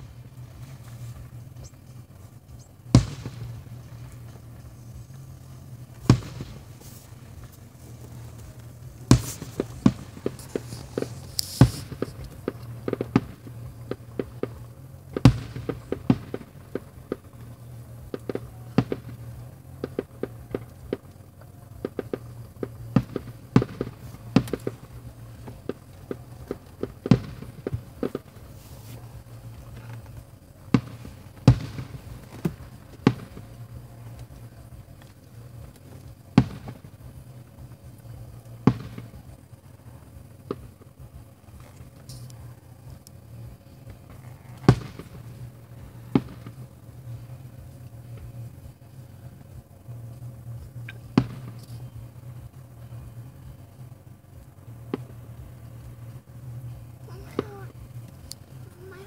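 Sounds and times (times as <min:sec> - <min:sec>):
fireworks bangs and crackles: 0:00.0 - 0:59.0
low steady hum: 0:00.0 - 0:59.0.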